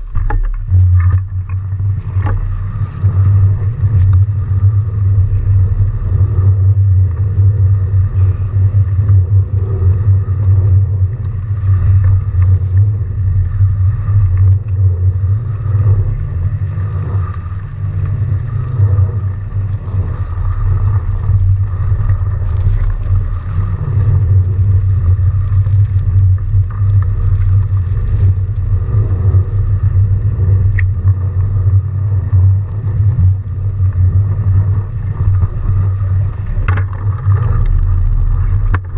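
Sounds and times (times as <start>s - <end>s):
bike tyres rumbling through snow: 0.0s - 38.9s.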